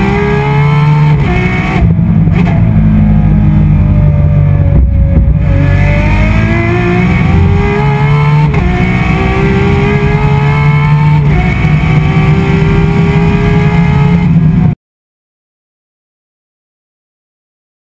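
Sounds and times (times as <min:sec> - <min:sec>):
engine revving at full throttle: 0:00.0 - 0:14.8.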